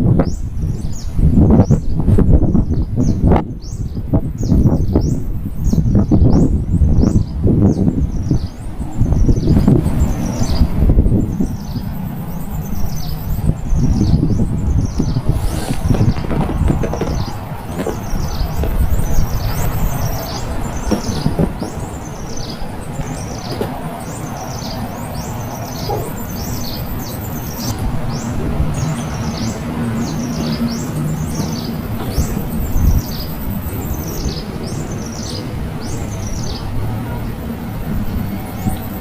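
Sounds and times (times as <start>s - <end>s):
bird chirping: 0.1s - 39.0s.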